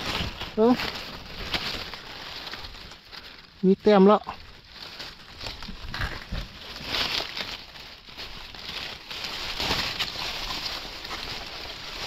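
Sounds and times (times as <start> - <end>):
dry litter rustling and crackling: 0.0 - 12.0.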